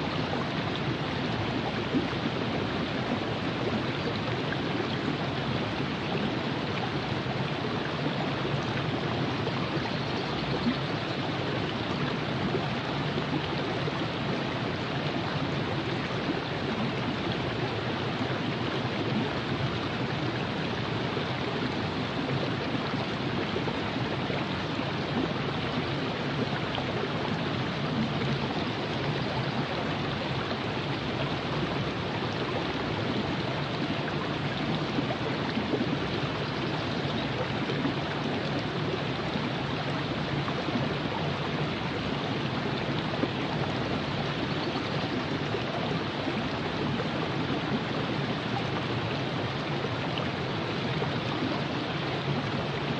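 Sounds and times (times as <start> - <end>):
river water flowing: 0.0 - 52.9.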